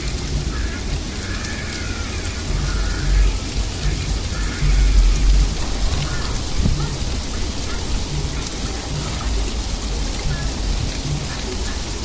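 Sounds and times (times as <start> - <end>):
low rumbles: 0.0 - 12.0.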